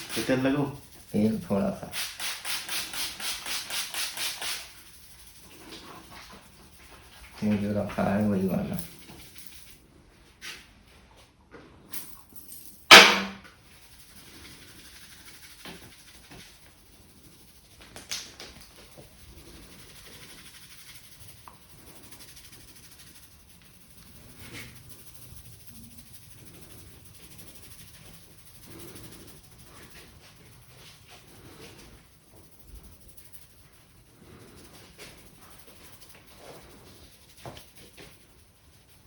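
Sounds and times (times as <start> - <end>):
hands rubbing hair and scalp: 0.0 - 9.8, 13.7 - 39.0.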